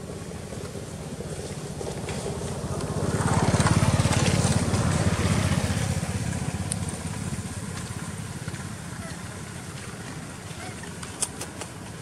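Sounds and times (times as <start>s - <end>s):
vehicle engine passing by: 0.0s - 11.2s.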